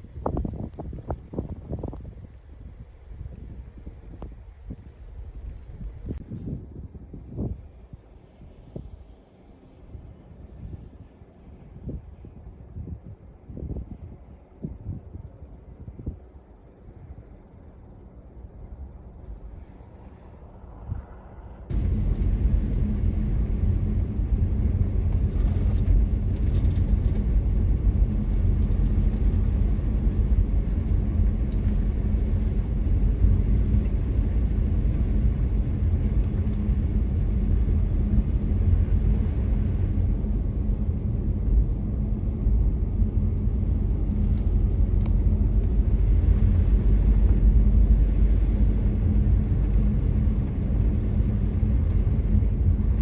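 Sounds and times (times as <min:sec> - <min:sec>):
car tyres and engine rumble: 0:00.0 - 0:53.0.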